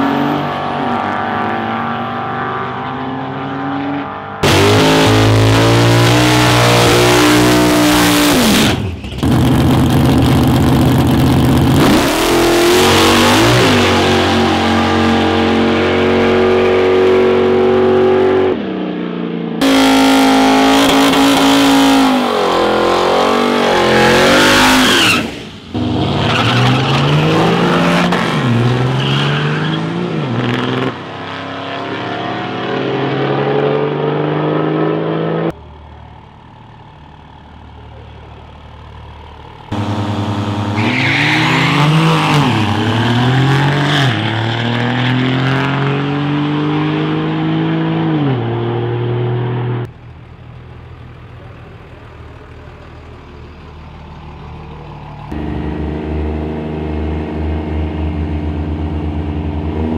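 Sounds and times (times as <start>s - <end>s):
diesel trucks at full throttle: 0.0s - 59.9s.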